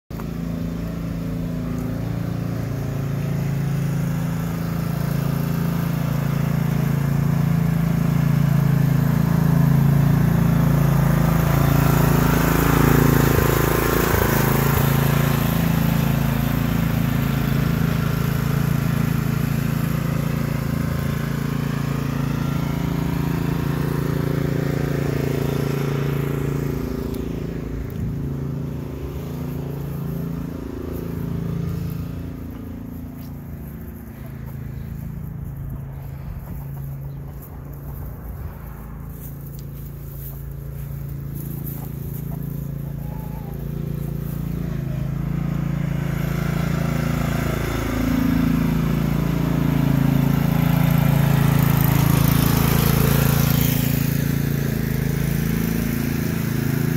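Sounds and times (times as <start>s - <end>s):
riding lawn mower running: 0.0s - 56.9s.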